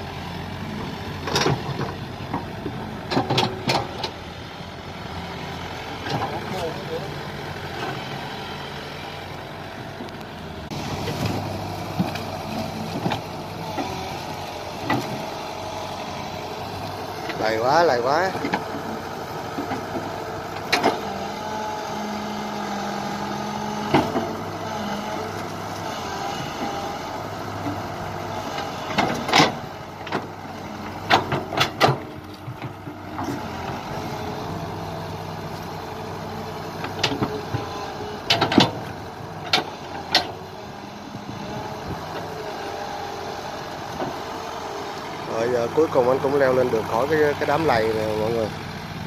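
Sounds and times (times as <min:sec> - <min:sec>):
excavator diesel engine under load: 0:00.0 - 0:49.0.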